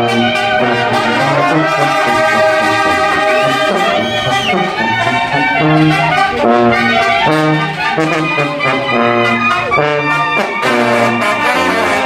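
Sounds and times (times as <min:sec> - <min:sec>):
brass band playing: 0:00.0 - 0:12.0
trumpets and trombones playing tune: 0:00.0 - 0:12.0
tuba bass notes: 0:00.0 - 0:12.0.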